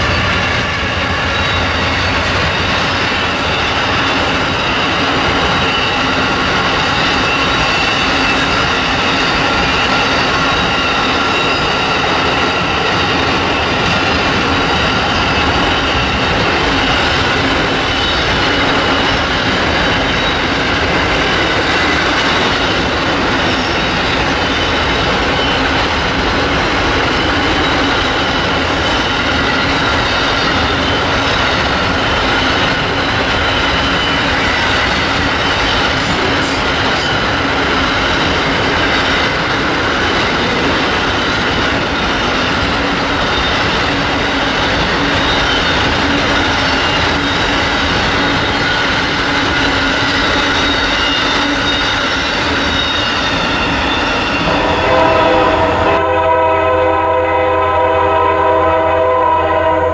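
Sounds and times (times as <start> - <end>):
train wheels squealing: 0.0 - 56.1
train rumble: 0.0 - 59.9.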